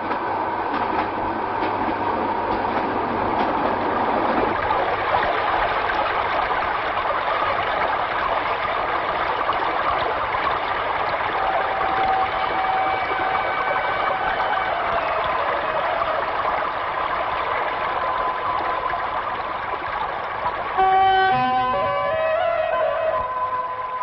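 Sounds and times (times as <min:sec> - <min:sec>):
river water rushing: 0:02.3 - 0:24.0.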